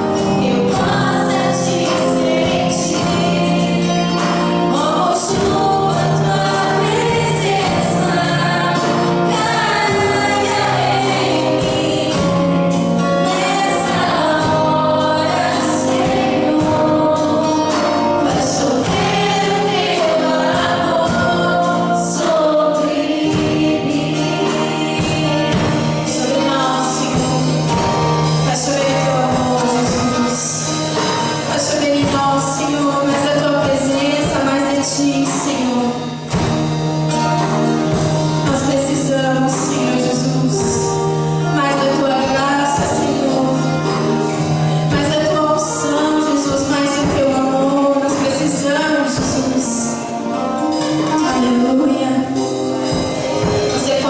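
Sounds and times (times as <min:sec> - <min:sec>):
group singing gospel song: 0:00.0 - 0:36.7, 0:37.8 - 0:54.0
band with bass and percussion: 0:00.0 - 0:54.0.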